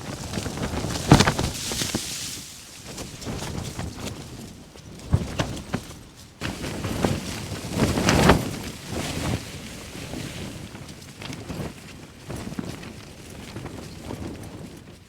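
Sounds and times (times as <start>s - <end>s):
tent fabric shaking: 0.0s - 15.0s
wind gusting against tent: 0.0s - 15.0s.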